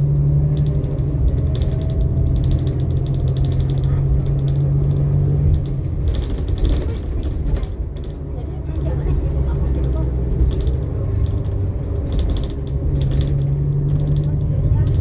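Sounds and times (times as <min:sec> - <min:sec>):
bus engine droning: 0:00.0 - 0:15.0
interior panels rattling and clicking: 0:00.4 - 0:15.0.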